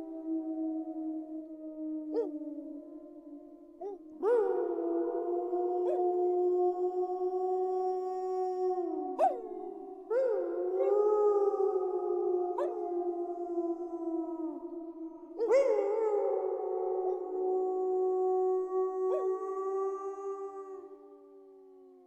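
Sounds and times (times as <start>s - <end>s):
wolves howling: 0.0s - 21.2s.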